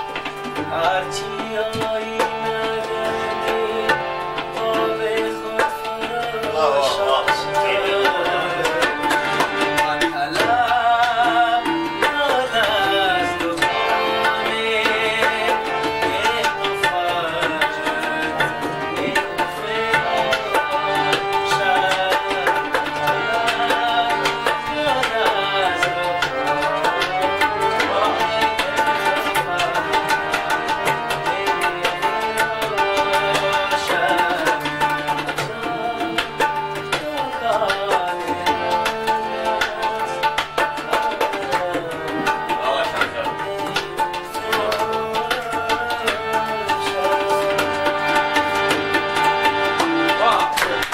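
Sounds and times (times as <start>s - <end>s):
harmonium: 0.0s - 50.9s
man singing: 0.0s - 50.9s
tabla: 0.0s - 50.9s.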